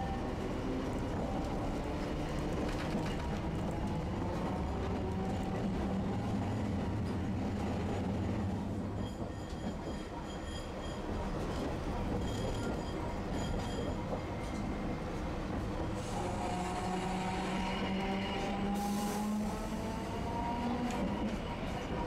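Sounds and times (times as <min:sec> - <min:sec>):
streetcar motor hum and wheel rumble: 0:00.0 - 0:22.0.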